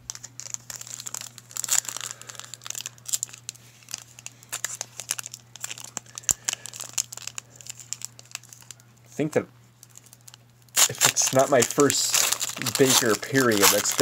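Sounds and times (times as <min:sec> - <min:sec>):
foil wrapper crinkling: 0:00.0 - 0:08.8, 0:09.8 - 0:14.0.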